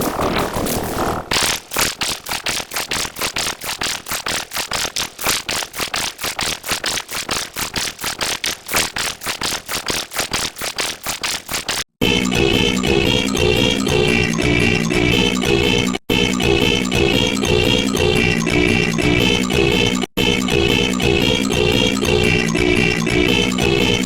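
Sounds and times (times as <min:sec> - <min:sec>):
stuttering noise sample: 0:00.0 - 0:24.0.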